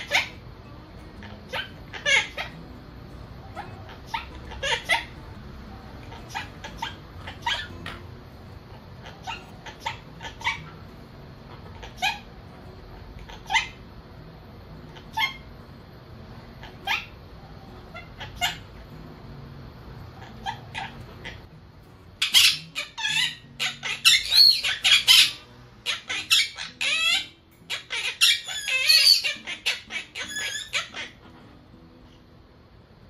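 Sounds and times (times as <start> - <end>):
parakeet chattering: 0.0 - 32.3.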